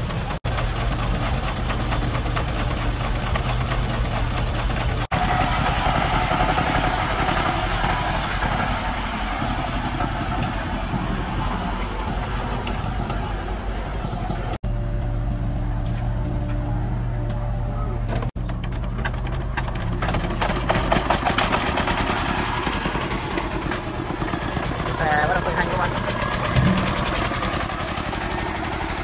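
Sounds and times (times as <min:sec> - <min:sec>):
diesel truck engines throbbing: 0:00.0 - 0:29.0.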